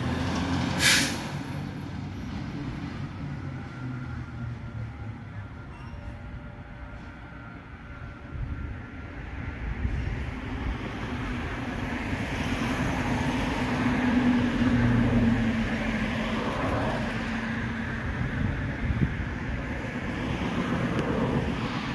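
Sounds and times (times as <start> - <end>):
vehicle engine hum: 0.0 - 21.9.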